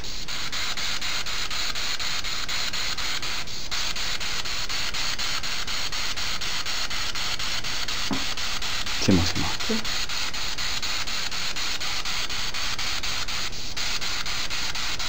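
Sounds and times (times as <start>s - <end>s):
chopped radio static hiss: 0.0s - 15.0s.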